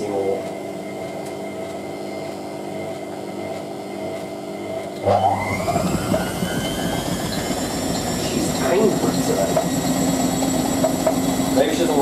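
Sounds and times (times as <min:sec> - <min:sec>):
washing machine running: 0:00.0 - 0:12.0
washing machine spin rumble: 0:00.0 - 0:12.0.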